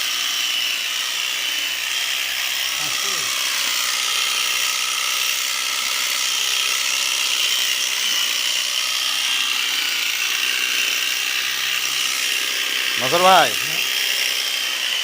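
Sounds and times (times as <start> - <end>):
electric clipper buzzing: 0.0 - 15.0.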